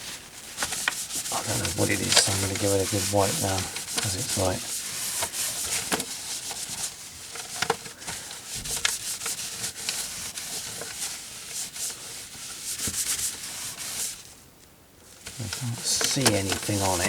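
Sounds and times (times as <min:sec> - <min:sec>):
rubbing plastic joystick: 0:00.0 - 0:14.3, 0:15.2 - 0:17.0.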